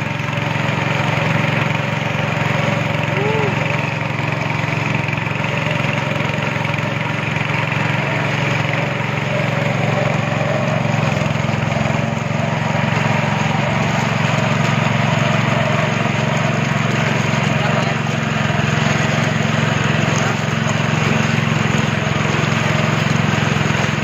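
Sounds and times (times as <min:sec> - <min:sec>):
rushing water noise: 0:00.0 - 0:24.0
speedboat engine drone: 0:00.0 - 0:24.0.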